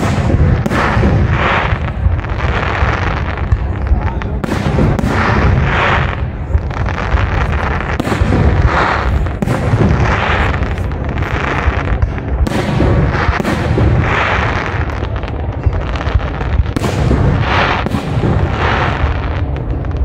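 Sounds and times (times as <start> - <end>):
fireworks booming: 0.0 - 20.0
fireworks hissing crackle: 0.0 - 20.0.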